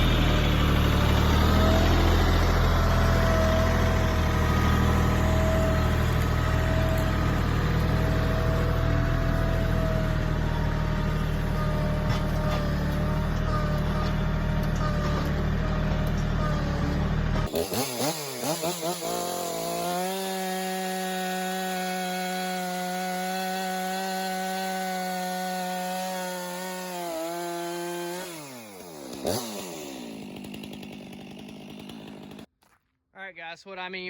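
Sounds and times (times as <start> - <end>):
chainsaw revving: 0.0 - 32.5
tractor engine droning: 0.0 - 32.5.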